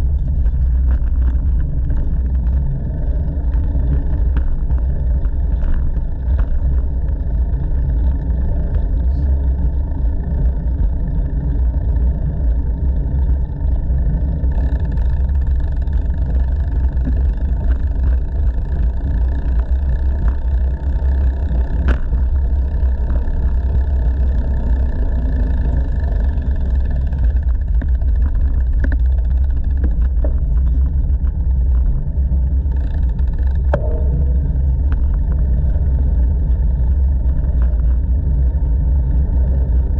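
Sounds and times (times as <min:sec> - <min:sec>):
bicycle tyre noise: 0:00.0 - 0:39.9
wind buffeting microphone: 0:00.0 - 0:39.9.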